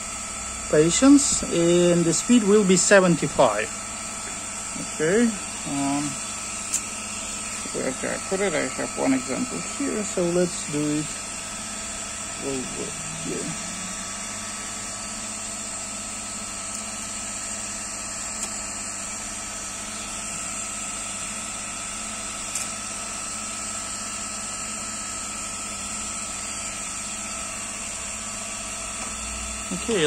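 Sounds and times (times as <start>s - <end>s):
cooling fans and pump whirring: 0.0s - 30.0s.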